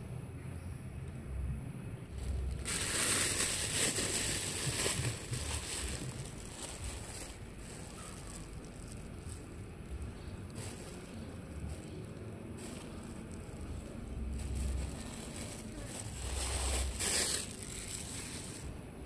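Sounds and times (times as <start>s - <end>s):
plastic bag rustling and crinkling: 2.1s - 19.0s.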